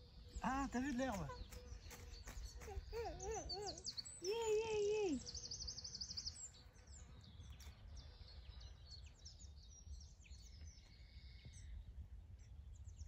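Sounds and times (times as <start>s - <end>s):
faint birdsong chirps and whistles: 0.0s - 13.0s.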